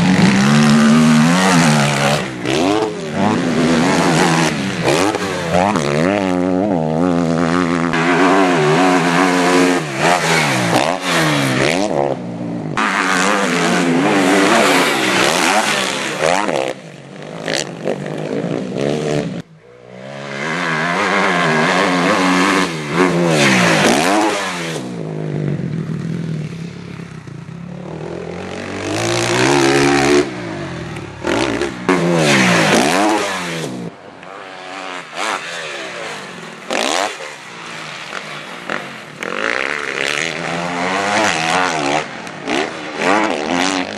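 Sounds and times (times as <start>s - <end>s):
motocross engines revving: 0.0s - 43.9s.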